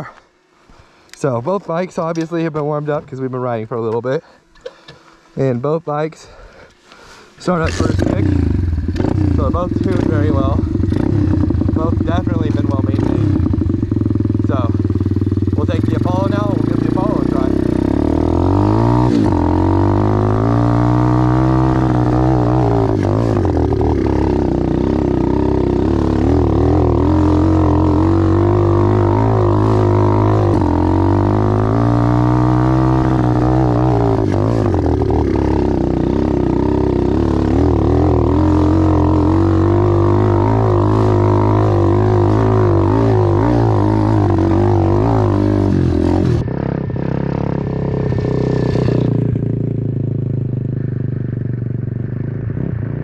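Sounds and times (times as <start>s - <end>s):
pit bike engine revving: 7.0s - 53.0s.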